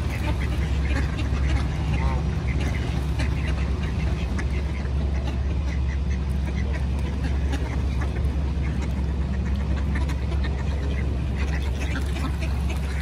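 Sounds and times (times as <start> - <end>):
ducks quacking: 0.0 - 13.0
steady low rumble: 0.0 - 13.0.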